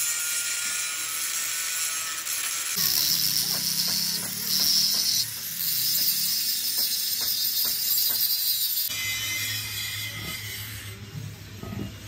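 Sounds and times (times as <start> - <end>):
angle grinder grinding steel: 0.0 - 12.0.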